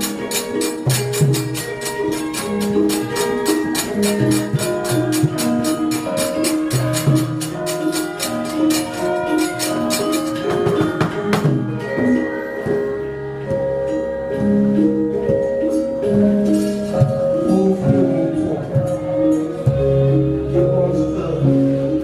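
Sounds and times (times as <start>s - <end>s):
gamelan orchestra playing: 0.0s - 22.0s.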